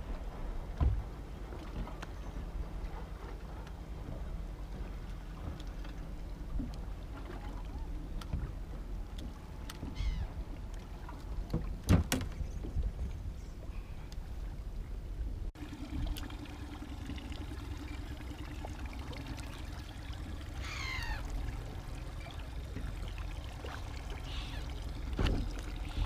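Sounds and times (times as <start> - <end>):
water lapping against boat hull: 0.0 - 26.0.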